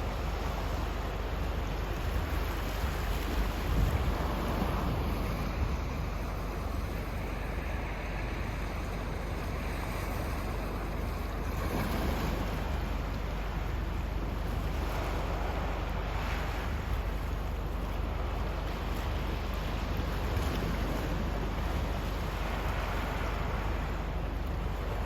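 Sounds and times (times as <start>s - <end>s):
sea waves washing onto shore: 0.0s - 25.0s
wind rumble on microphone: 0.0s - 25.0s.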